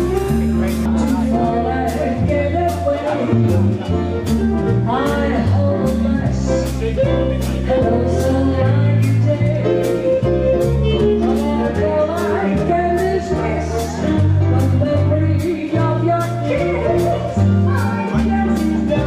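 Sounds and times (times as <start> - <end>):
jazz band playing: 0.0 - 19.0
woman singing: 0.9 - 4.0, 4.8 - 19.0.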